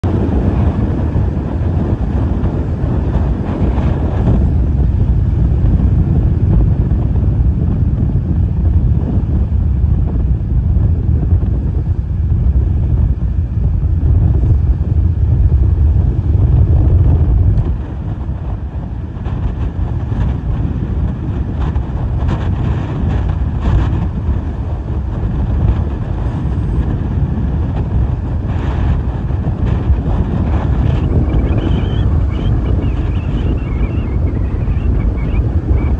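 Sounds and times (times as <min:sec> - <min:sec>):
strong gusty wind on microphone: 0:00.0 - 0:35.9.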